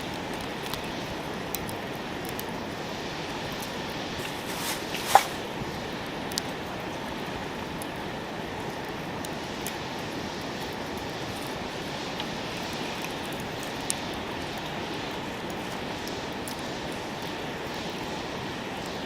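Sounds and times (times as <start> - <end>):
campfire hissing: 0.0 - 19.0
fire crackles and pops: 0.0 - 19.0.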